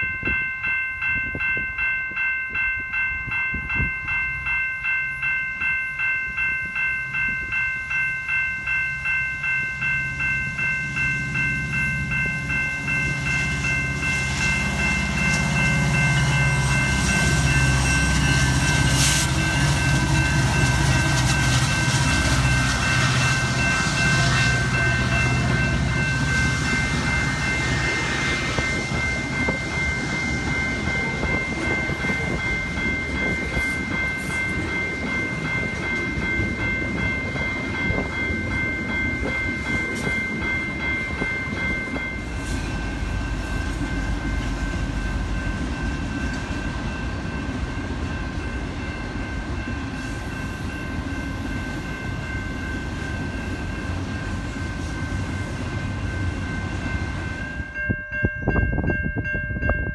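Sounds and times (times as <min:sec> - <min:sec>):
crossing bell ringing: 0:00.0 - 0:59.9
train engine rumble: 0:00.0 - 0:59.9.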